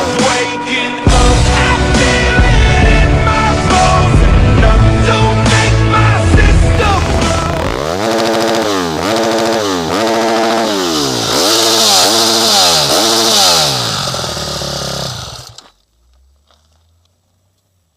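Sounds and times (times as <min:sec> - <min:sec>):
motorcycle engine revving: 0:01.1 - 0:17.0.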